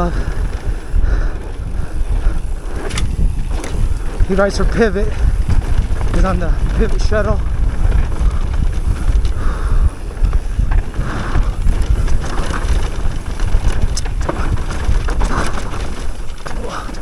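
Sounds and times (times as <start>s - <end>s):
bike knocks and rattles: 0.0s - 17.0s
tyres rolling over dirt trail: 0.0s - 17.0s
wind buffeting microphone: 0.0s - 17.0s.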